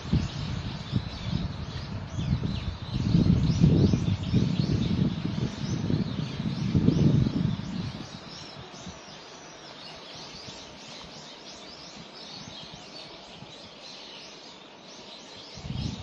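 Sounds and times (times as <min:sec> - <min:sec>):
songbirds chirping: 0:00.0 - 0:16.0
steady outdoor hiss: 0:00.0 - 0:16.0.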